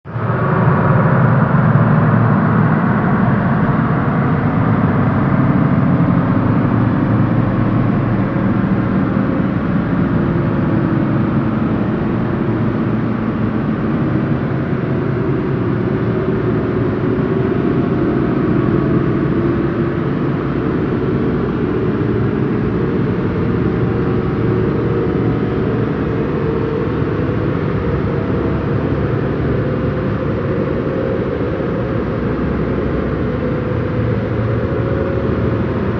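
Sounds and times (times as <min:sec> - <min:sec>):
spaceship low rumbling drone: 0:00.1 - 0:35.9.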